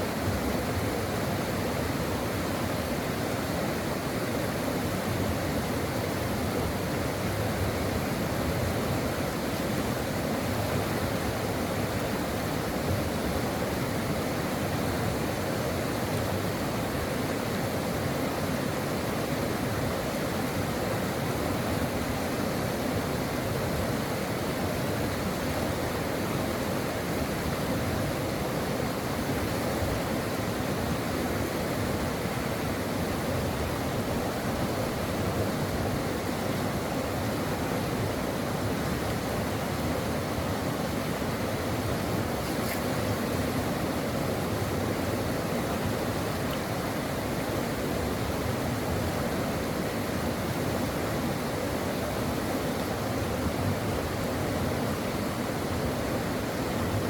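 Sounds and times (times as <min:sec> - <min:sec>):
brook water flowing: 0:00.0 - 0:57.0.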